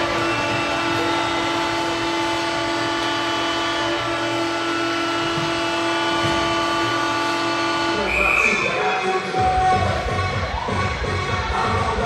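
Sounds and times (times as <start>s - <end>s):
goal horn blasts: 0.0s - 10.0s.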